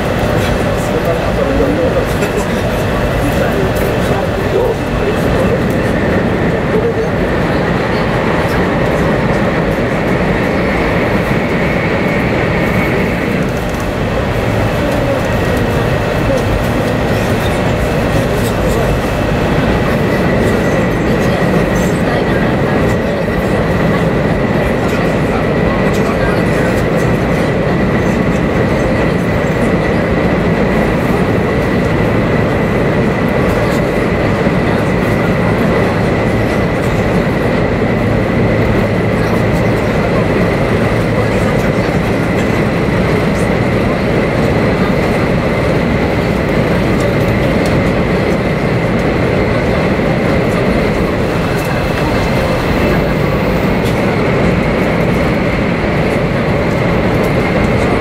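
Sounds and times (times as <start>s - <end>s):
rumble and rush of train: 0.0s - 58.0s.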